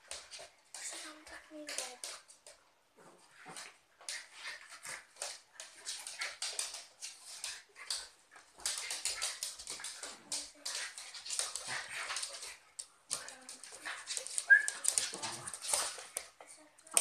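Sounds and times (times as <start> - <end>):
dogs scuffling: 0.0 - 17.0
claws scrabbling on wooden floor: 3.3 - 17.0.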